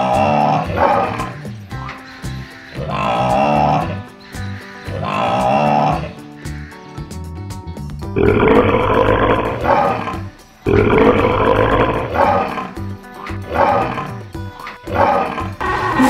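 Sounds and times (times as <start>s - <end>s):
tiger roaring: 0.0s - 1.6s, 2.7s - 6.7s, 8.2s - 16.0s
background music: 0.0s - 16.0s.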